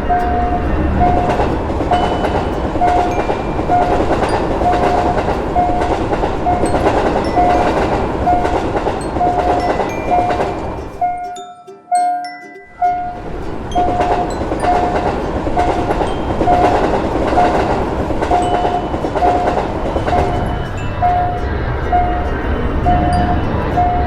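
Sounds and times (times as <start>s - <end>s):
train rumbling and clattering: 0.0s - 11.4s, 12.7s - 24.0s
railroad crossing signal beeping: 0.0s - 24.0s.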